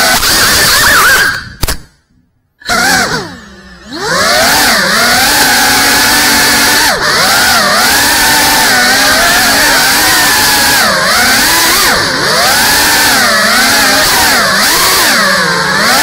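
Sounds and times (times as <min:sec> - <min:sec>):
drone motors whining: 0:00.0 - 0:01.6, 0:02.6 - 0:16.0.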